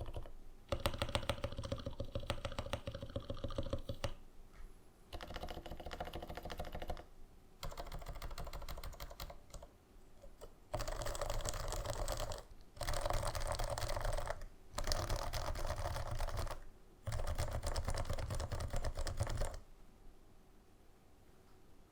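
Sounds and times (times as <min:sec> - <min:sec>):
typing on silenced keyboard: 0:00.0 - 0:04.2, 0:05.1 - 0:19.6.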